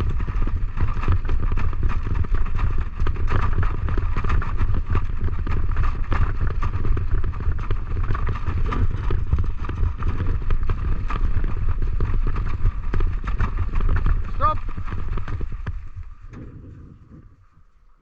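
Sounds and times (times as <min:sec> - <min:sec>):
wheeled rig rolling rumble: 0:00.0 - 0:18.0.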